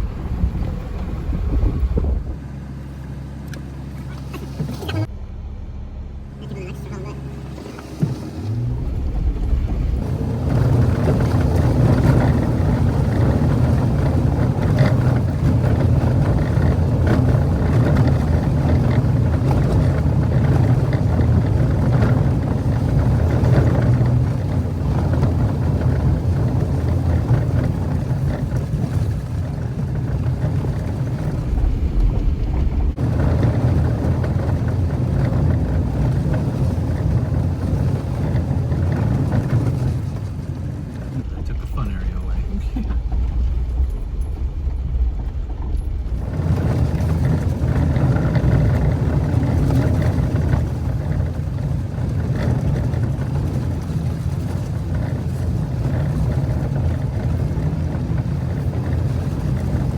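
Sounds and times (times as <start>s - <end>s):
vehicle engine and tyres on dirt: 0.0s - 59.9s.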